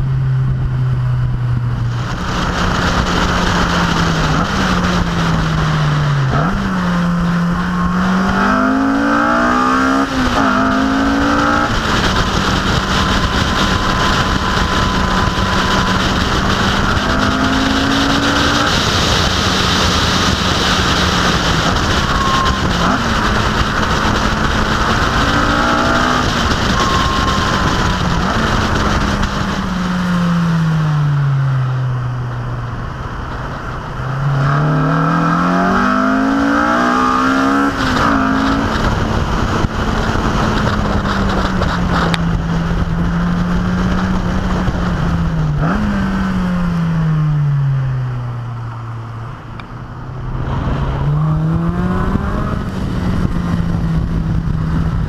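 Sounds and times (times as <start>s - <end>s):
car engine accelerating: 0.0s - 55.0s
wind and road noise: 0.0s - 55.0s.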